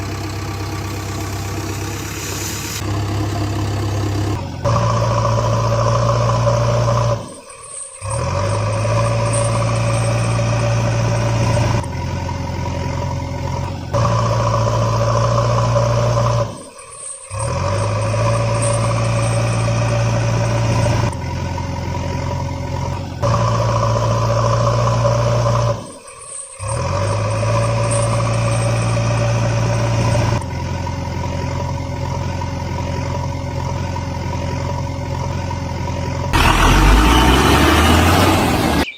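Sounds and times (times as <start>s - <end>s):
truck engine running: 0.0s - 7.3s, 8.0s - 16.6s, 17.3s - 25.8s, 26.6s - 38.9s.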